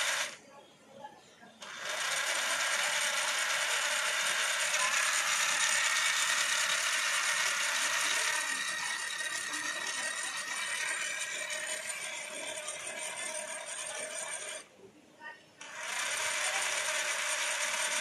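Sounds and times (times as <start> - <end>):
toy car motors whirring: 0.0 - 0.4, 1.6 - 14.7, 15.6 - 18.0.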